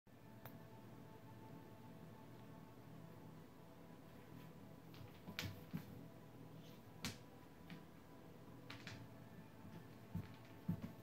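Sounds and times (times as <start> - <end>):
faint steady hum: 0.1 - 11.0.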